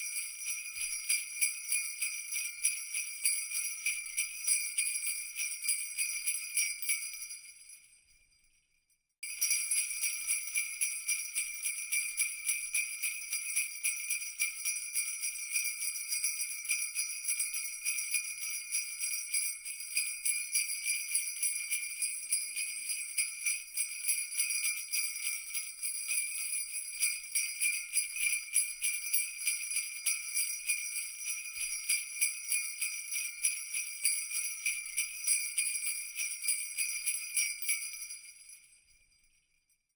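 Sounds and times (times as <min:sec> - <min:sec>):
jingle bells shaken: 0:00.0 - 0:08.6, 0:09.2 - 0:39.9.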